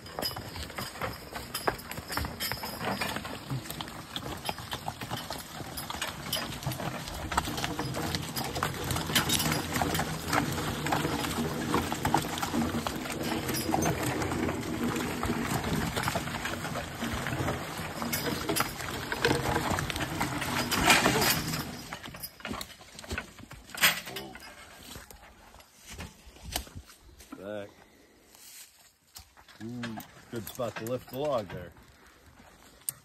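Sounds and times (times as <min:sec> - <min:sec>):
harness clicks and clanks: 0:00.0 - 0:26.6, 0:29.2 - 0:31.8
hooves clopping: 0:00.0 - 0:33.0.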